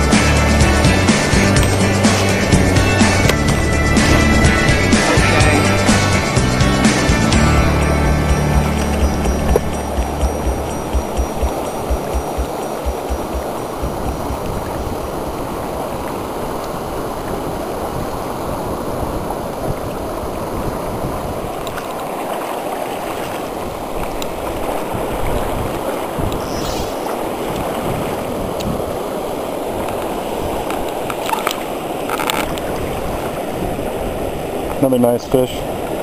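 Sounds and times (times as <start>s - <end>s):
river current rushing: 0.0s - 36.0s
water splashes: 0.0s - 36.0s.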